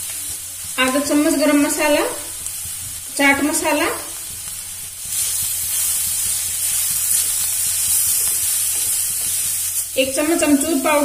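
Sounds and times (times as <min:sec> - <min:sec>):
vegetables sizzling in oil: 0:00.0 - 0:11.0
spatula stirring: 0:00.6 - 0:09.9.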